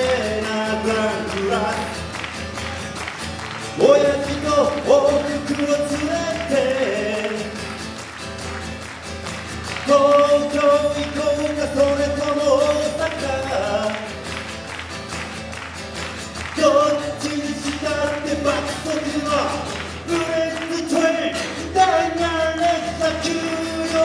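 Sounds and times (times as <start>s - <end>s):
man singing: 0.0s - 2.7s, 3.6s - 8.0s, 9.6s - 14.4s, 16.4s - 24.0s
acoustic guitar strumming: 0.0s - 24.0s.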